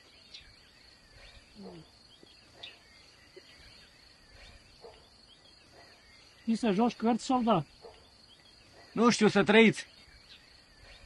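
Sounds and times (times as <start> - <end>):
faint bird chirps: 0.0 - 11.0
insects chirring: 0.0 - 11.0.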